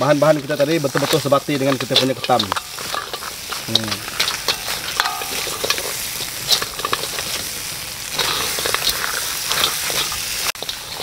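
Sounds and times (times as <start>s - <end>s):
crab sizzling in a wok: 0.0s - 11.0s.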